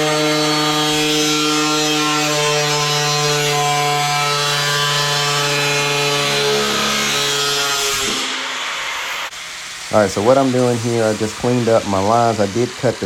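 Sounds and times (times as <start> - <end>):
power grinder grinding metal: 0.0 - 13.0.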